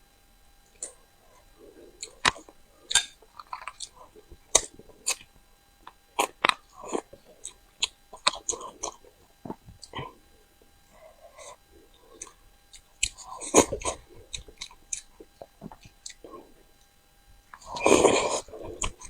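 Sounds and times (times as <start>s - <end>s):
person chewing and biting: 0.8s - 5.3s, 5.9s - 16.5s, 17.5s - 19.0s.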